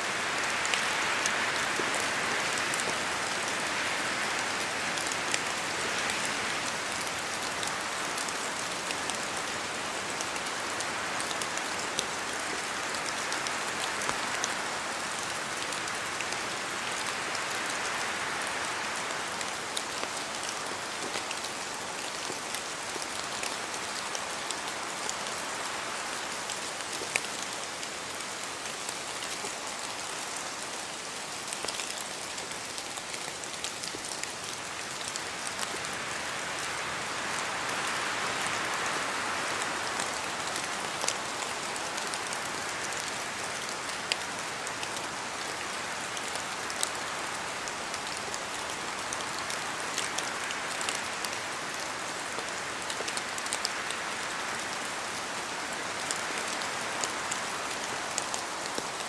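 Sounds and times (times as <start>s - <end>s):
close raindrops: 0.0s - 59.0s
rain on trees: 0.0s - 59.0s.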